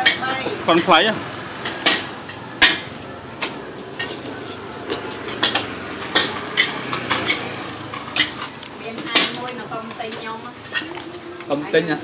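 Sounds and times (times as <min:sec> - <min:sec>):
steady background noise: 0:00.0 - 0:12.0
utensils clinking against dishes: 0:00.0 - 0:12.0.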